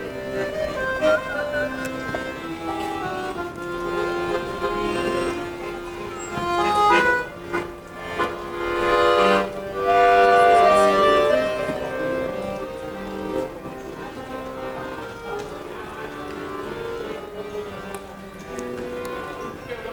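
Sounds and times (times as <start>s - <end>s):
melody of held notes: 0.0s - 19.9s
musical accompaniment: 0.0s - 19.9s.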